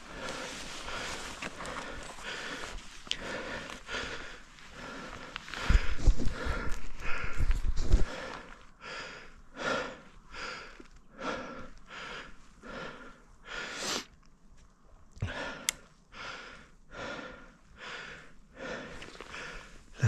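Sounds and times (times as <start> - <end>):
person breathing hard: 0.0 - 14.1, 15.2 - 20.0.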